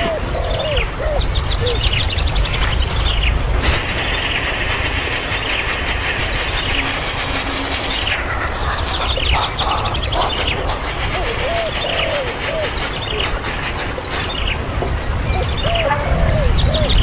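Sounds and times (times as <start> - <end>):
young birds begging calls: 0.0 - 4.7, 5.5 - 17.0.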